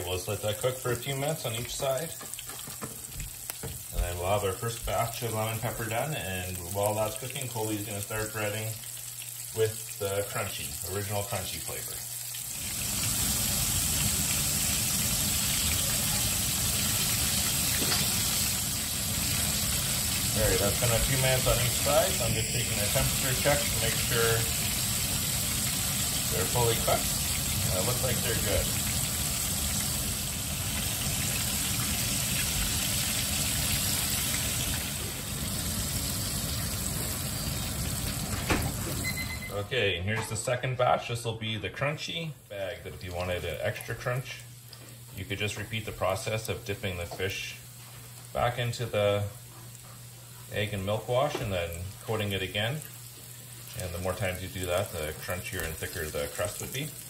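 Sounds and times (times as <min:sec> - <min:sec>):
fish sizzling in hot oil: 0:00.0 - 0:39.6, 0:42.6 - 0:57.0.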